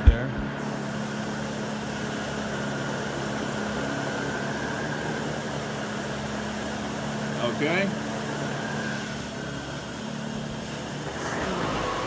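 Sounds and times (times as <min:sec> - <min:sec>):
vacuum cleaner motor hum: 0:00.4 - 0:12.0.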